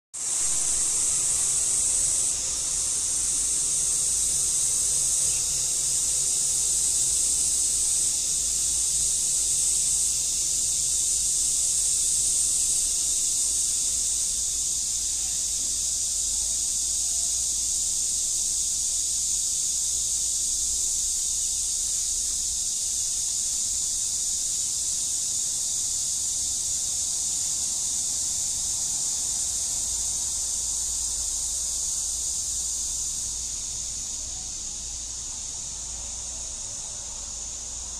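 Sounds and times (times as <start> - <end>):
high-pitched insect chorus: 0.2 - 37.9.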